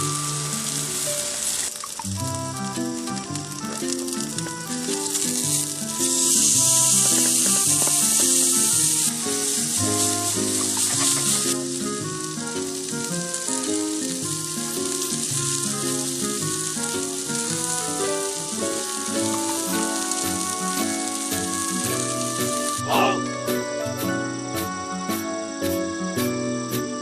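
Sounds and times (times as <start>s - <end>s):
food sizzling in a pan: 0.0s - 26.9s
background music plucked melody: 0.0s - 27.0s.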